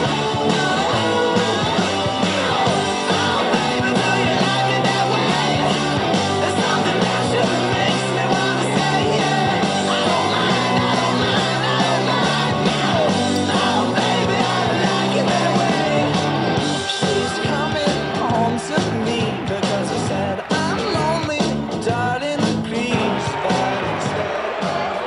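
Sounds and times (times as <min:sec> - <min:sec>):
rock song with singer: 0:00.0 - 0:25.0.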